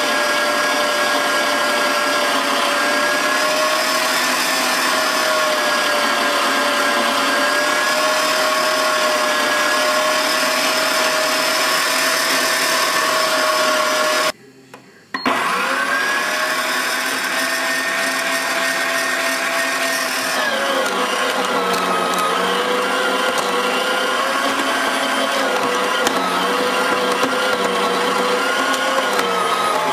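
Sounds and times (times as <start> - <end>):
electric meat grinder whining: 0.0 - 14.4, 15.2 - 29.9.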